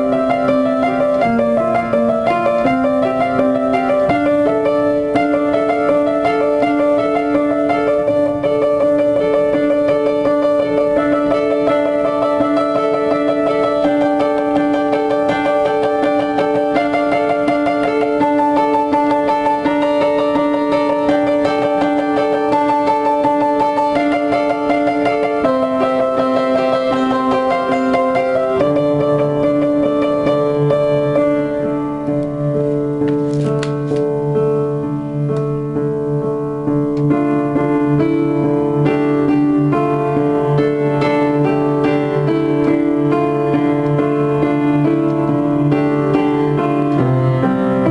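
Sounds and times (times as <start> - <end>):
upright piano playing fast notes: 0.0 - 47.9.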